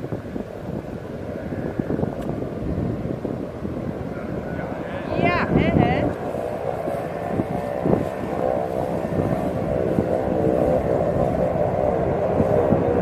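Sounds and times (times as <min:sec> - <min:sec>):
propeller engines drone: 0:00.0 - 0:13.0.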